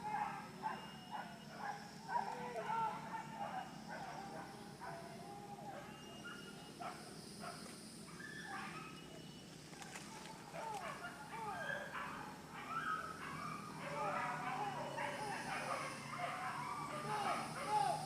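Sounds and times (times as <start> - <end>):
dogs yelping and whining: 0.0 - 7.0, 8.1 - 9.2, 10.6 - 18.0.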